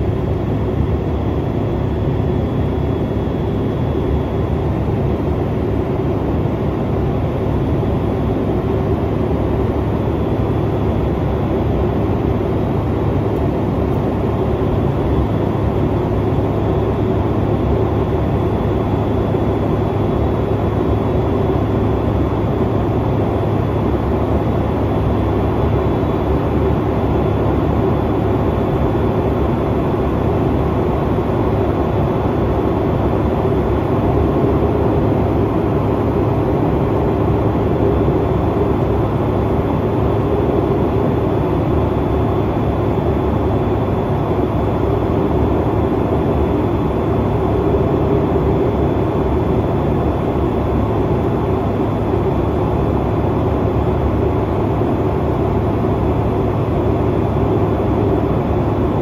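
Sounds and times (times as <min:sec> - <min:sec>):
jet engines: 0:00.0 - 0:59.0.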